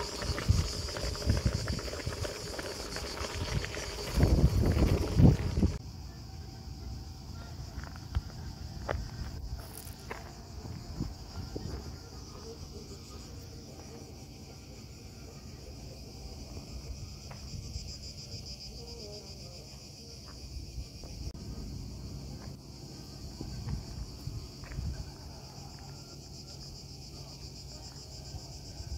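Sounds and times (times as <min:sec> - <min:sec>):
cicadas buzzing: 0:00.0 - 0:28.9.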